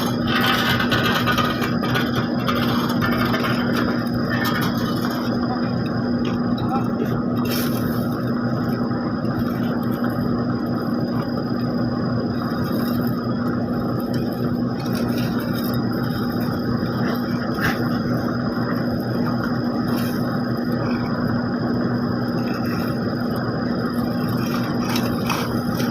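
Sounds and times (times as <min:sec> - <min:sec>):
heavy machine engine humming: 0:00.0 - 0:25.9.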